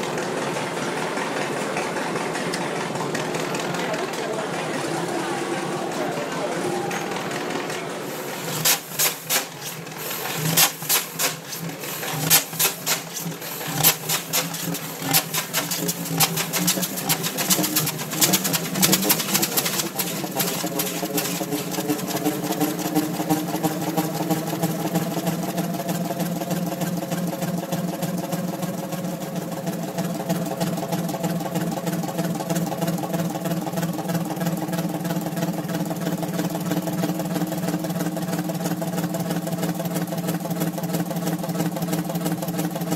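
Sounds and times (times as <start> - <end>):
diesel engine starting and running: 0.0 - 42.9.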